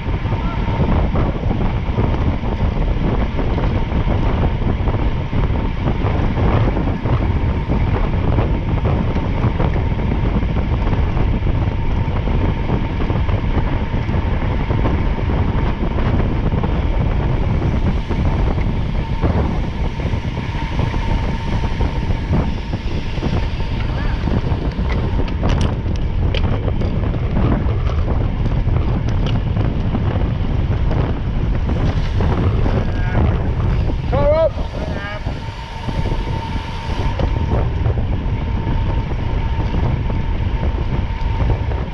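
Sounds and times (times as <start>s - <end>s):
faint steady whine: 0.0s - 41.9s
vehicle rumbling at speed: 0.0s - 41.9s
wind buffeting microphone: 0.0s - 41.9s.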